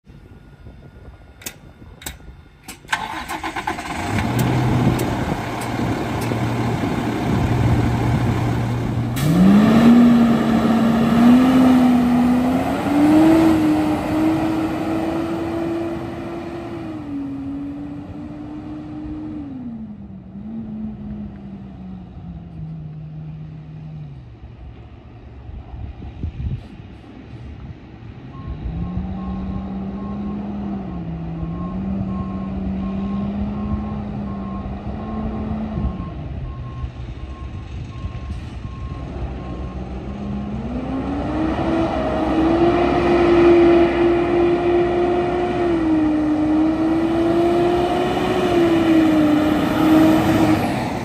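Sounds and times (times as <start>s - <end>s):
truck diesel engine: 0.0s - 51.0s.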